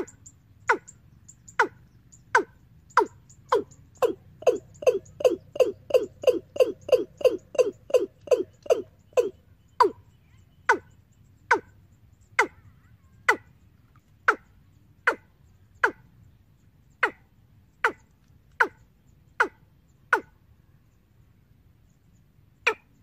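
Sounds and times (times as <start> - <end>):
recorded bird call over loudspeakers: 0.0 - 20.3.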